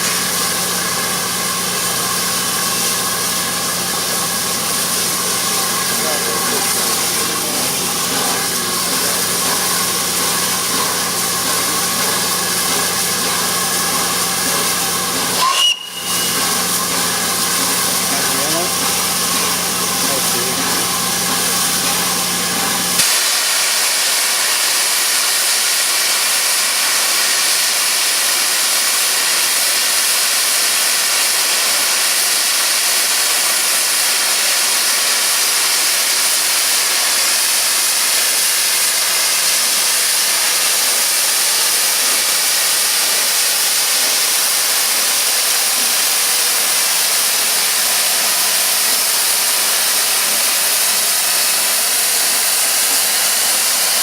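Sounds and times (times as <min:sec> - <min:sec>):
steam hissing from locomotive: 0:00.0 - 0:54.0.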